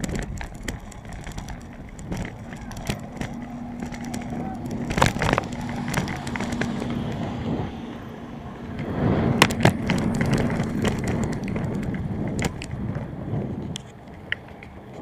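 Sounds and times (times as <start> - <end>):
bicycle tyre rumble on rough road: 0.0 - 15.0
bike rattling over bumps: 0.0 - 15.0.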